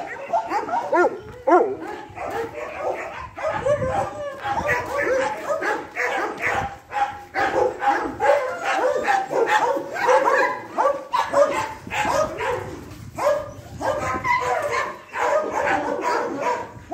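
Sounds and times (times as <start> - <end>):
dogs barking and yelping: 0.0 - 16.9.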